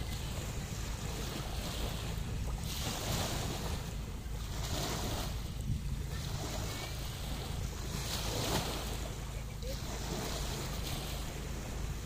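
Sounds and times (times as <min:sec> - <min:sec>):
waves washing in: 0:00.0 - 0:12.0
wind on microphone: 0:00.0 - 0:12.0.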